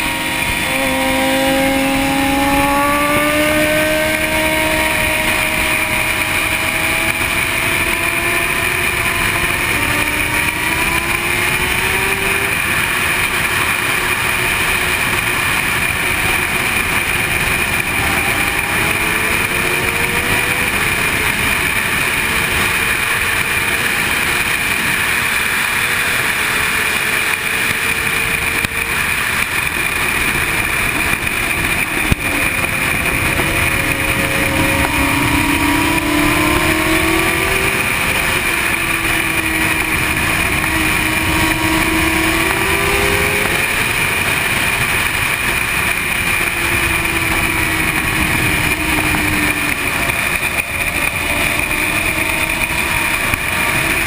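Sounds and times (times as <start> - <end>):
motorcycle engine running hard: 0.0 - 54.0.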